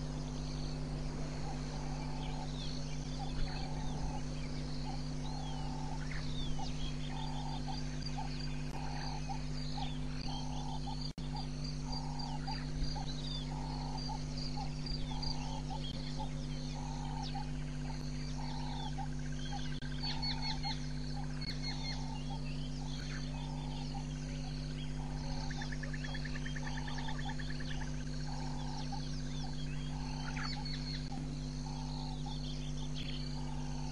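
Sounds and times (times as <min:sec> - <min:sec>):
low repeating bird call: 0:00.0 - 0:33.9
small birds chirping: 0:00.0 - 0:33.9
steady low hum: 0:00.0 - 0:33.9.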